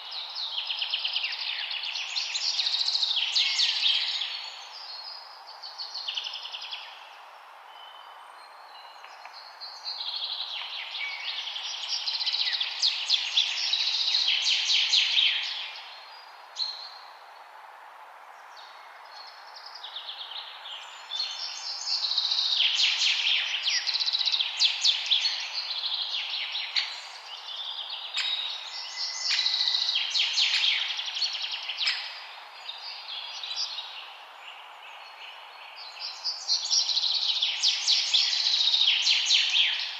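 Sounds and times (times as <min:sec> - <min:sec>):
forest ambience hiss: 0:00.0 - 0:39.9.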